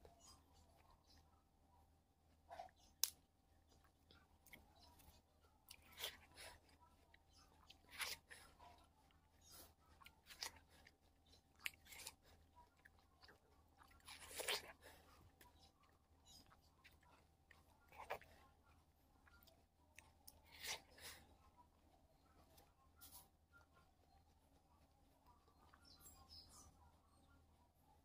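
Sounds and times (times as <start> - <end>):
crunching and chewing frozen fruit: 2.6 - 26.7.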